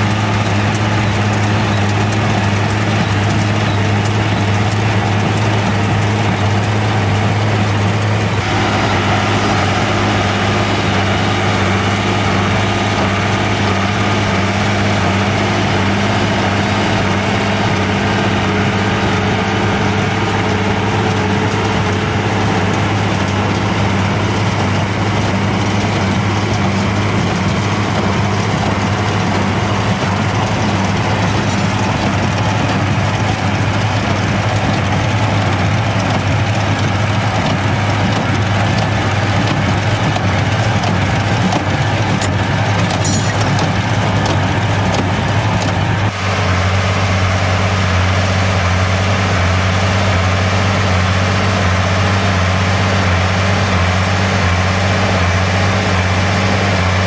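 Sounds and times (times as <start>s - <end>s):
baler working: 0.0s - 57.0s
tractor engine droning: 0.0s - 57.0s.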